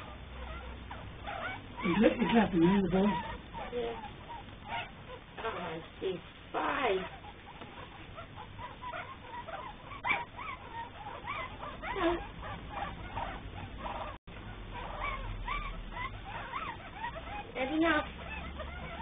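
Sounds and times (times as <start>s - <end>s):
puppies squeaking and whimpering: 0.0s - 19.0s.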